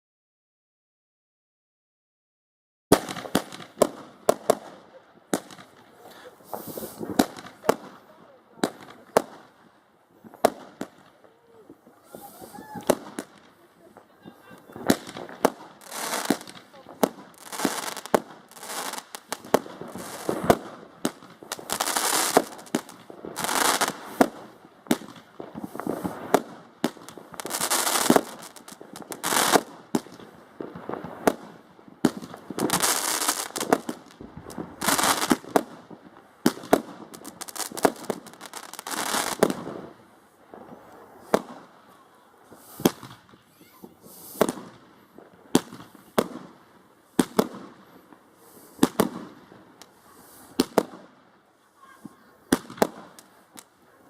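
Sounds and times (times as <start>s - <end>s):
firework bangs: 2.9s - 51.2s, 51.8s - 53.8s
firework crackling bursts: 2.9s - 54.0s.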